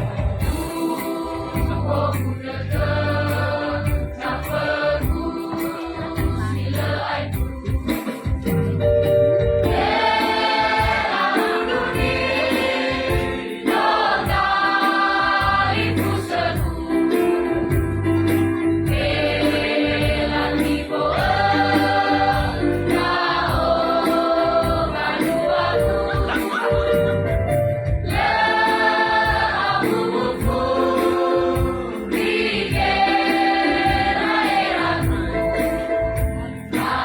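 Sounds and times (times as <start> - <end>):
choir singing in harmony: 0.0 - 8.9, 9.6 - 37.0.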